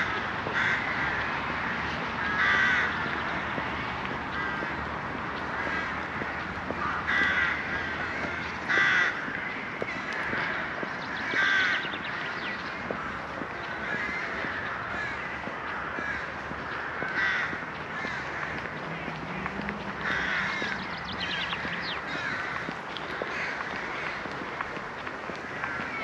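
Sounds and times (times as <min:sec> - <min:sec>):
loud crow caws: 0:00.0 - 0:26.0
many quieter crow calls: 0:00.0 - 0:26.0.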